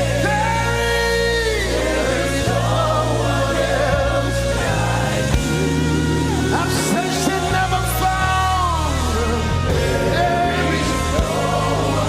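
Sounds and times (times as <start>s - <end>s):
choir singing gospel: 0.0s - 12.0s
held chords: 0.0s - 12.0s.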